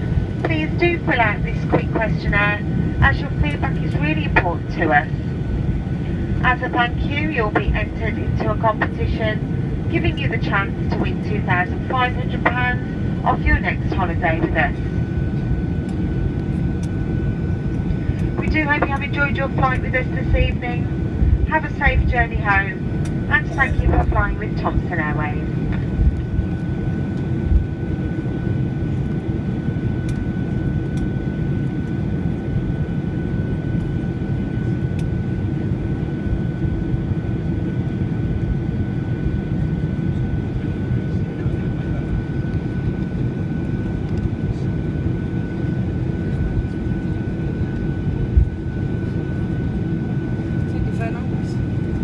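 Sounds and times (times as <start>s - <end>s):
aircraft cabin rumble: 0.0s - 52.0s
thin steady whine: 0.0s - 52.0s.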